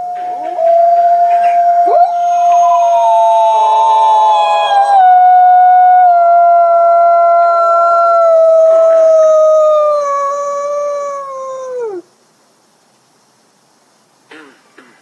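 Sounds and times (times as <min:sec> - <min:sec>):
wolf howling: 0:00.0 - 0:12.0.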